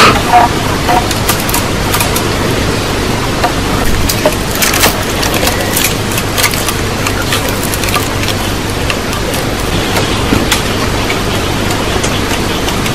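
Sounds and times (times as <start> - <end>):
heavy rain: 0.0 - 12.9.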